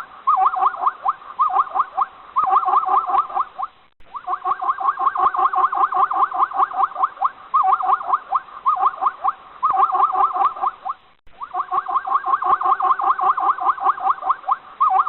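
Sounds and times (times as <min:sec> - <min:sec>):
animal chirping squeaks: 0:00.3 - 0:15.0.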